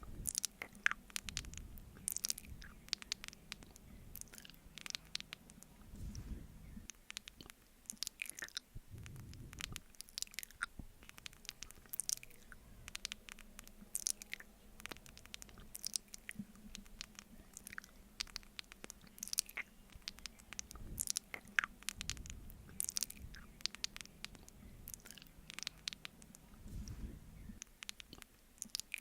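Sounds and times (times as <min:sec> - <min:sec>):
wet mouth smacks and clicks: 0:00.2 - 0:06.3, 0:06.9 - 0:27.0, 0:27.6 - 0:29.0.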